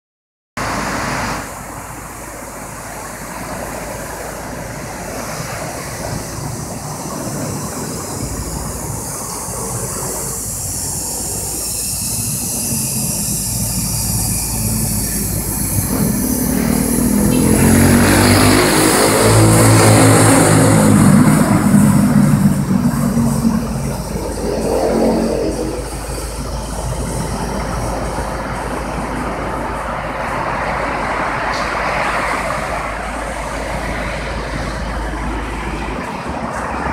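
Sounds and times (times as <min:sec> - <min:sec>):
diesel locomotive engine: 0:00.6 - 0:36.9
train coaches rolling on rails: 0:00.6 - 0:36.9.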